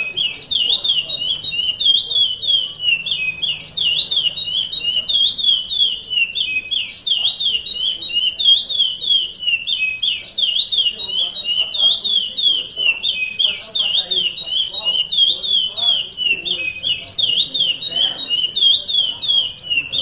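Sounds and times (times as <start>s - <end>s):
finch singing high whistled notes: 0.0s - 20.0s.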